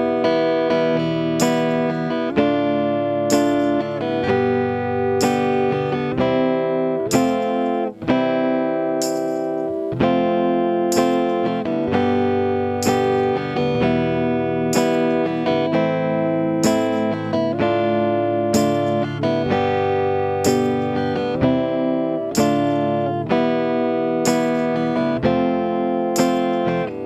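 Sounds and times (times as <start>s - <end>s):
guitar strumming chords: 0.0s - 27.0s.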